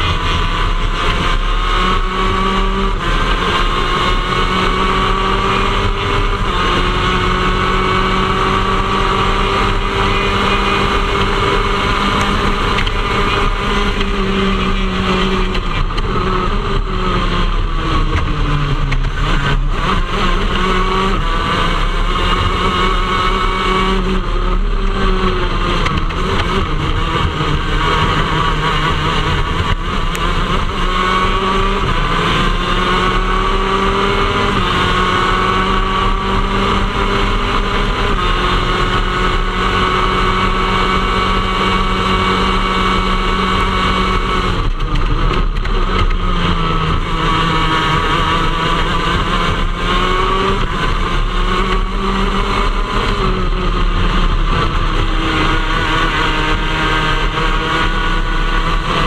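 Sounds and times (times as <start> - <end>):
kart engine revving: 0.0 - 59.0
wind and road noise: 0.0 - 59.0.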